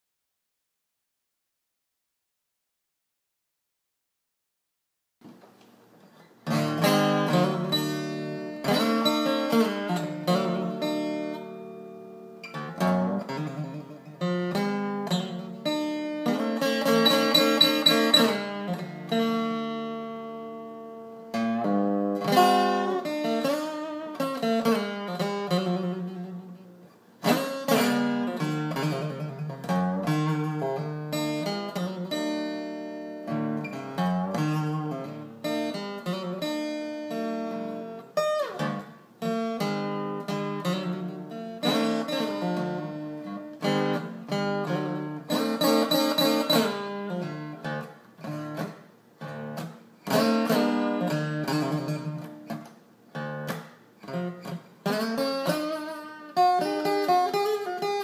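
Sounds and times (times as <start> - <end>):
acoustic guitar playing: 5.2 - 58.0.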